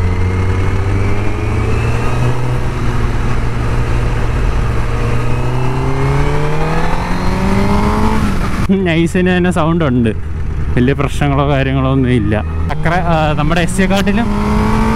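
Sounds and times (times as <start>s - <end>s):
motorcycle engine revving up: 0.0s - 14.9s.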